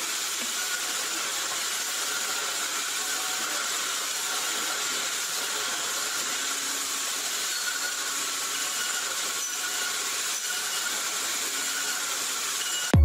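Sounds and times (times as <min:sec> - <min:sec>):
heavy machinery running with hiss: 0:00.0 - 0:13.0.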